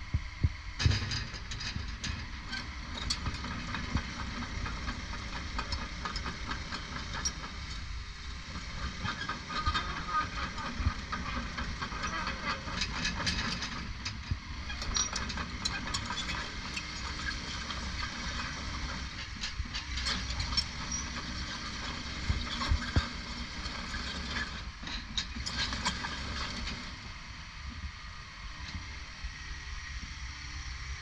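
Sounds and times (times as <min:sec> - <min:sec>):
excavator engine and hydraulic hum: 0:00.0 - 0:31.0.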